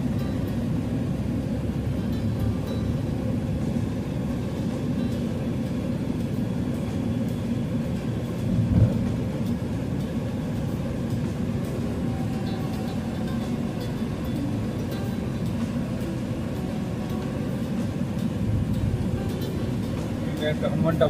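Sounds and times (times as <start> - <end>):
vehicle road rumble: 0.0 - 21.0.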